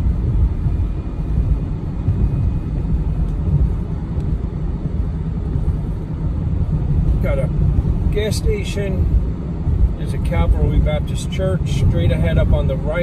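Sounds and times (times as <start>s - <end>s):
car tyres and engine rumble: 0.0s - 13.0s.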